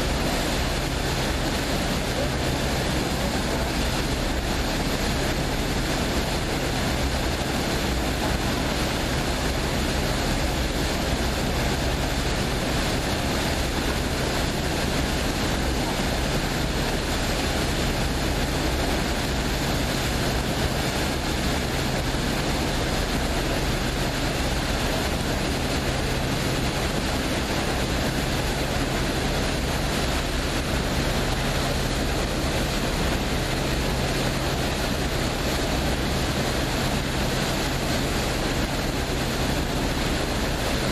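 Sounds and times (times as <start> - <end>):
boat engine humming: 0.0 - 40.9
constant rushing noise: 0.0 - 40.9.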